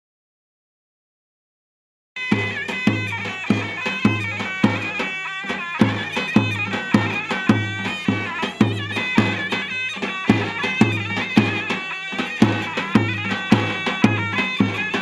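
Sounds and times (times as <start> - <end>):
shrill double-reed melody: 2.2 - 15.0
bass drum dance rhythm: 2.3 - 15.0.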